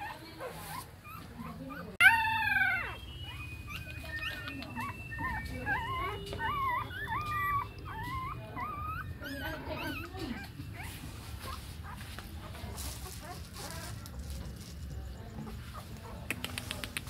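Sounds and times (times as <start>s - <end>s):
puppies whimpering and crying: 0.0s - 14.2s.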